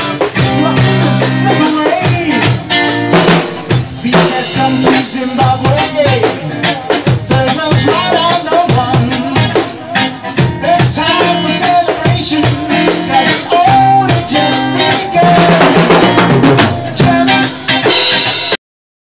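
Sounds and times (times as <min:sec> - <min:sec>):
amplified electric guitar: 0:00.0 - 0:18.6
drum kit: 0:00.0 - 0:18.6.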